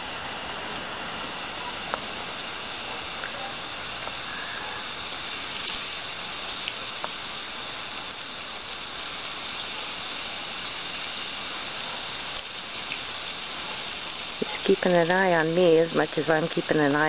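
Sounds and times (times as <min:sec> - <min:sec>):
water spraying onto grass: 0:00.0 - 0:17.0.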